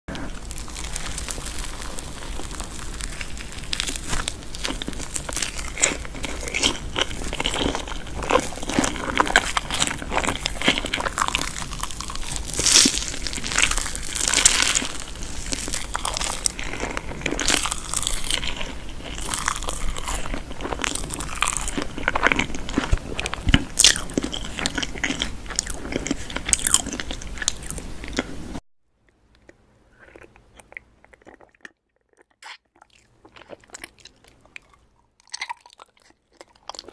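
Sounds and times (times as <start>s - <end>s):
crunchy food chewing: 0.1s - 28.6s, 29.3s - 36.9s.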